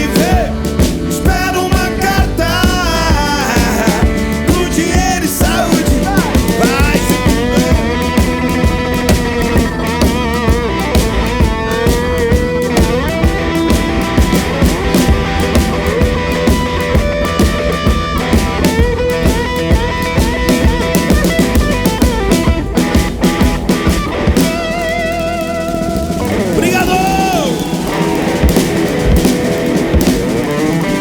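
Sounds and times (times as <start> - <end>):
bass guitar: 0.0 - 31.0
drum kit: 0.0 - 31.0
electric guitar with bent notes: 0.0 - 31.0.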